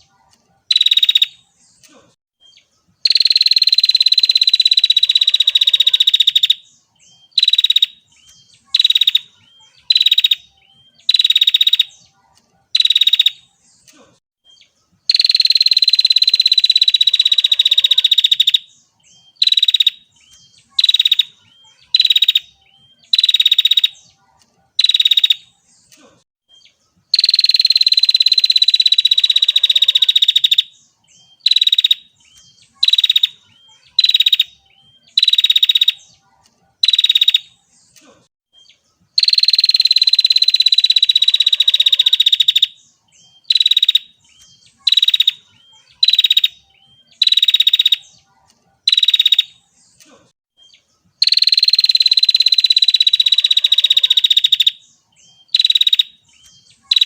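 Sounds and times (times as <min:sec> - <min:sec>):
prinia rasping trills: 0:00.0 - 0:57.0.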